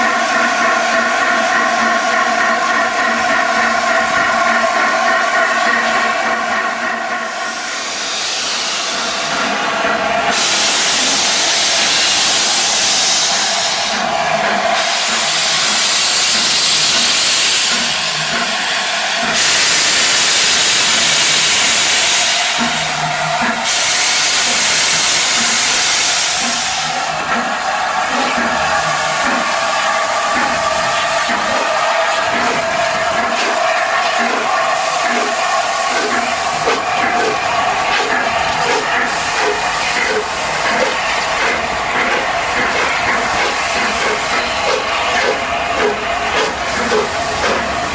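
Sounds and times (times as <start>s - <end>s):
steam hissing from drain cocks: 0.0s - 47.9s
steam locomotive exhaust beats: 0.0s - 47.9s.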